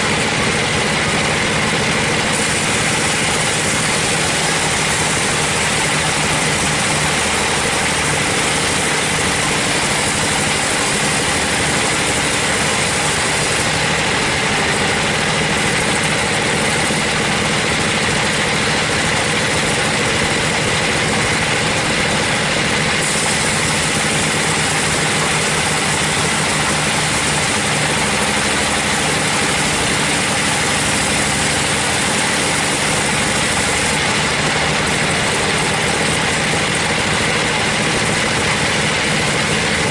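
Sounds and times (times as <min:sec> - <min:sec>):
band saw cutting log: 0:00.0 - 0:39.9
engine drone: 0:00.0 - 0:39.9.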